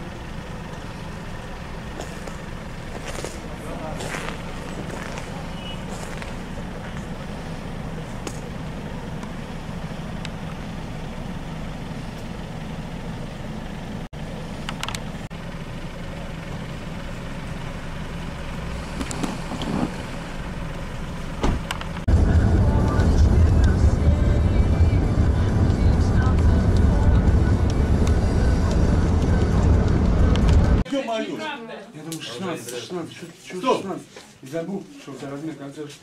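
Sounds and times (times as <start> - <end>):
car engine idling: 0.0 - 30.8.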